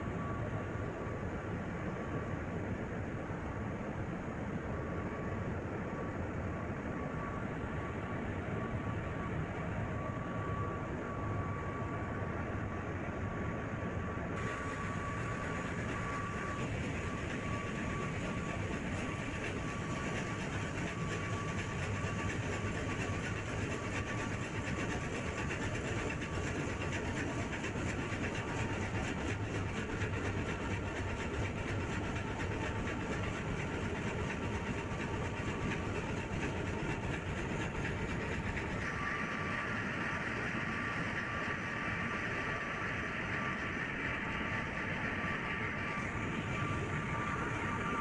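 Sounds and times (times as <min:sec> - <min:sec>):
faint thin whine: 0:00.0 - 0:48.0.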